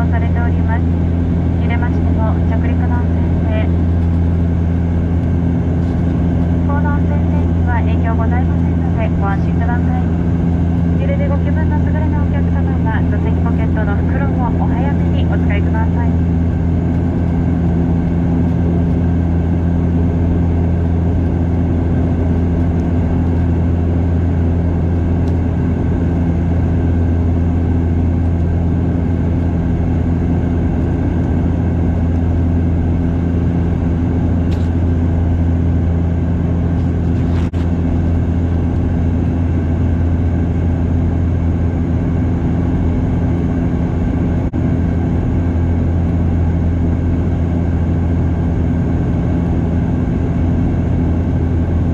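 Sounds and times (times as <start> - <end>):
turboprop engine drone: 0.0 - 51.9.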